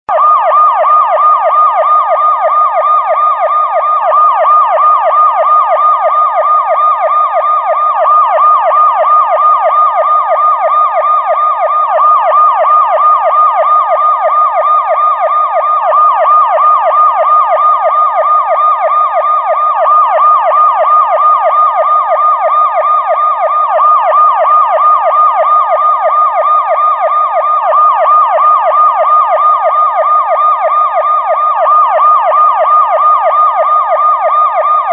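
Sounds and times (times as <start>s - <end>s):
police siren yelp: 0.1s - 34.9s.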